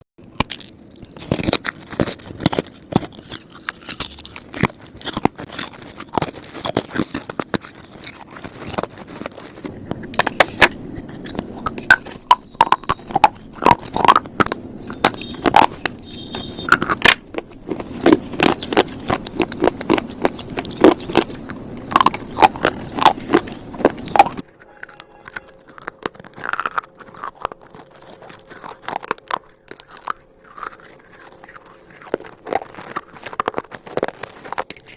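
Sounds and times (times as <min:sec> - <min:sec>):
slate crunching: 0:00.2 - 0:34.9.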